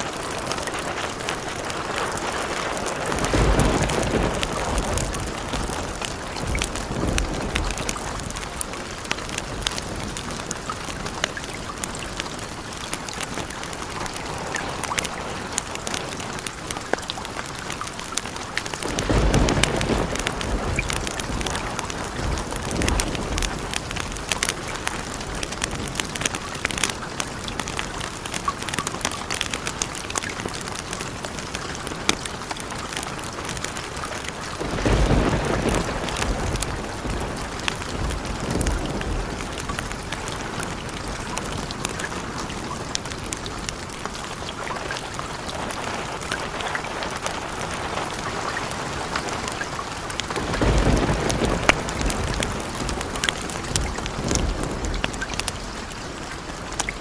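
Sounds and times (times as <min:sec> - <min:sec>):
thunder rumbling: 0:00.0 - 0:28.8, 0:30.2 - 0:57.0
steady rain: 0:00.0 - 0:57.0.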